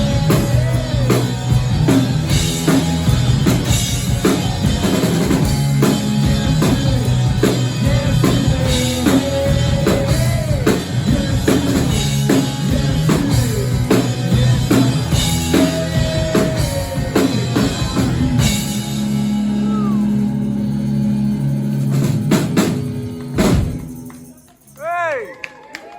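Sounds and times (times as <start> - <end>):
bending electric guitar notes: 0.0 - 24.0
drum kit: 0.0 - 24.3
rock band playing: 0.0 - 25.3.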